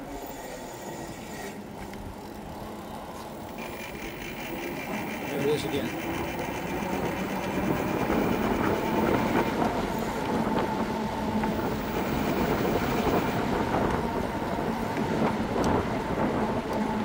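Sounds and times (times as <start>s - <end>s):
electric bike motor humming: 0.0s - 17.0s
road and wind noise: 1.5s - 17.0s.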